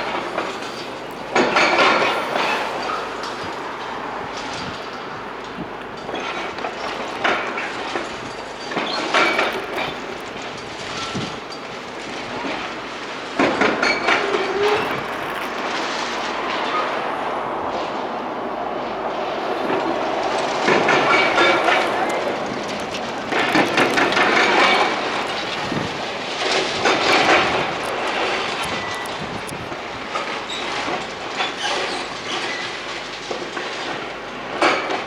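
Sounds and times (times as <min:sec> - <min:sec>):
rubble clattering and crunching: 0:00.0 - 0:16.8, 0:19.6 - 0:35.0
demolition machinery rumbling: 0:00.0 - 0:35.0.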